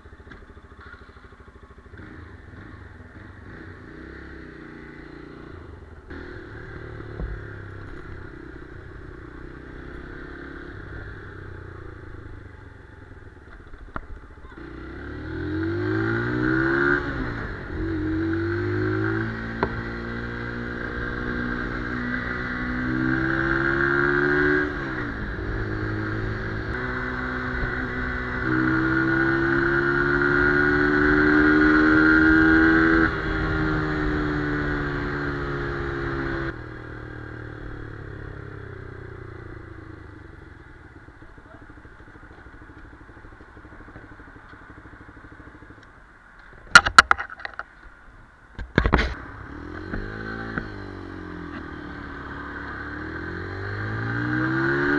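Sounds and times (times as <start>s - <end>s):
motorcycle engine accelerating: 0.0s - 47.6s, 48.6s - 54.9s.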